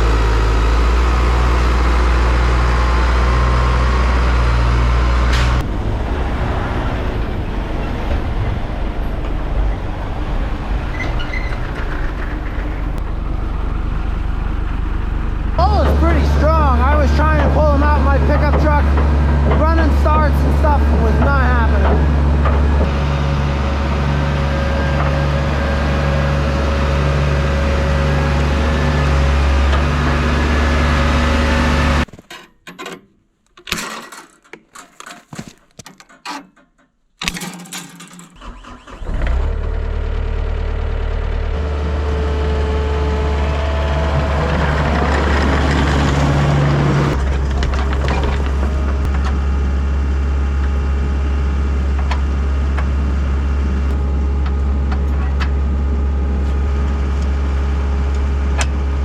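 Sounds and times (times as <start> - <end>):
diesel engine running: 0.0 - 32.1, 38.4 - 59.0.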